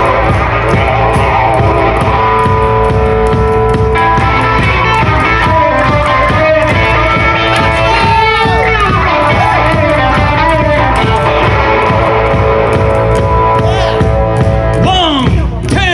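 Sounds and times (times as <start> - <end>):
rockabilly band playing live: 0.0 - 15.9.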